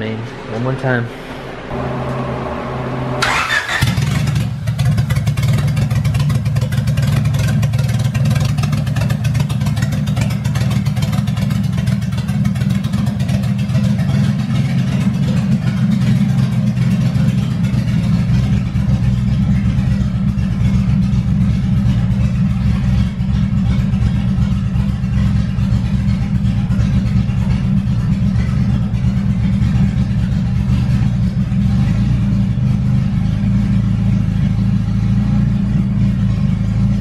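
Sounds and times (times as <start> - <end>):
car engine starting and running loud: 0.0 - 37.0.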